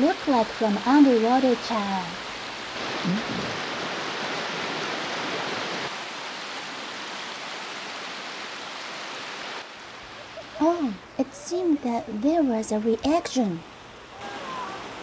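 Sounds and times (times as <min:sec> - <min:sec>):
stream rushing over rocks: 0:00.0 - 0:11.8, 0:13.7 - 0:15.0.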